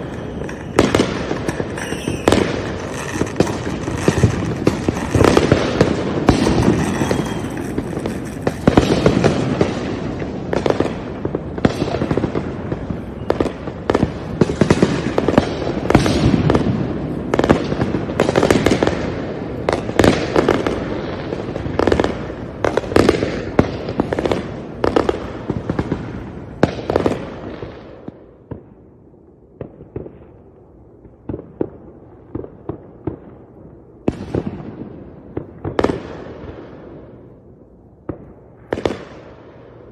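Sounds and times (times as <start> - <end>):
fireworks bangs and crackling: 0.0 - 28.9, 29.5 - 37.4, 38.0 - 39.9.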